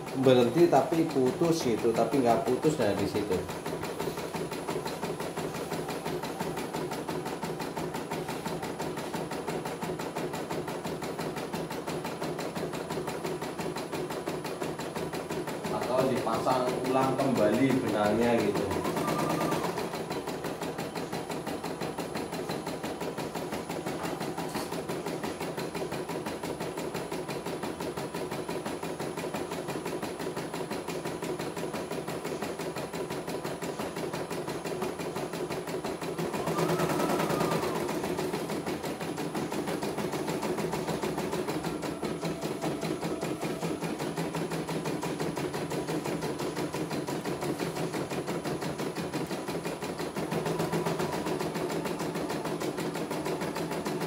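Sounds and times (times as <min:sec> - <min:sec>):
embroidery machine stitching: 0:00.0 - 0:54.0.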